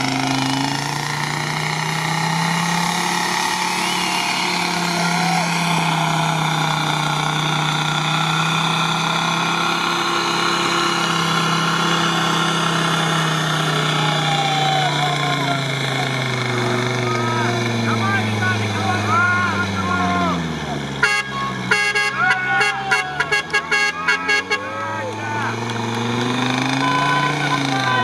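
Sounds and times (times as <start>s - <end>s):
droning engine running: 0.0s - 28.0s.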